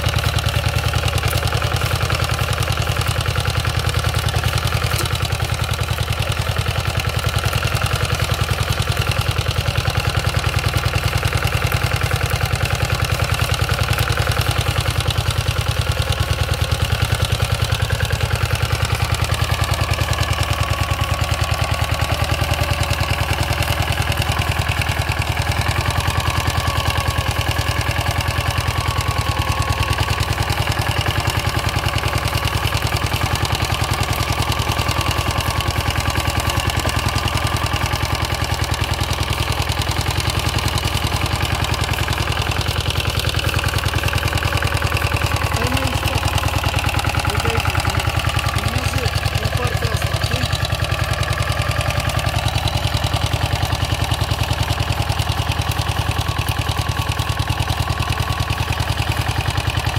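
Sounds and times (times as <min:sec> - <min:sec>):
rotary tiller engine running: 0:00.0 - 0:59.9.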